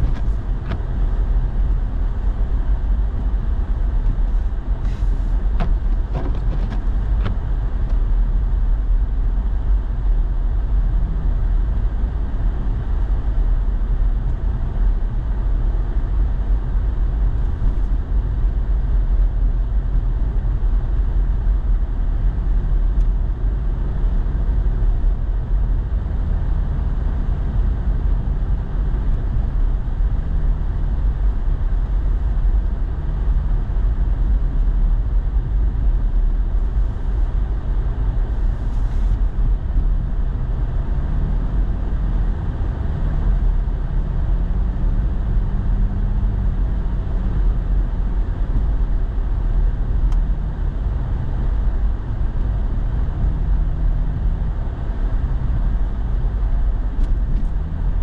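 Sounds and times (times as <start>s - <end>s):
truck road and engine rumble: 0.0s - 58.0s.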